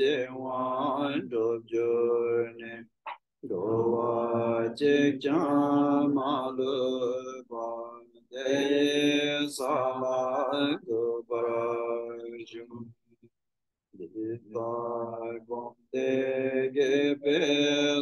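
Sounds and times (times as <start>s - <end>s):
man chanting liturgy: 0.0s - 2.8s, 3.4s - 12.8s, 14.0s - 18.0s.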